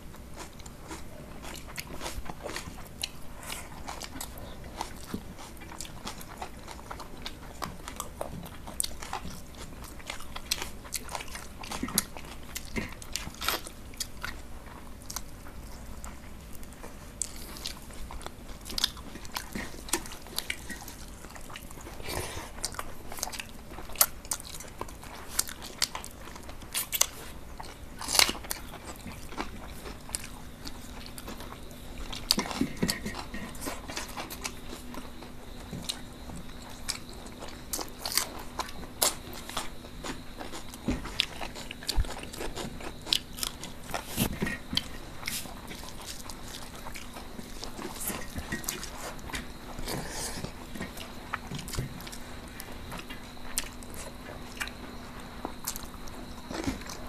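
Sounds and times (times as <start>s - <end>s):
people chewing food: 0.0s - 57.0s.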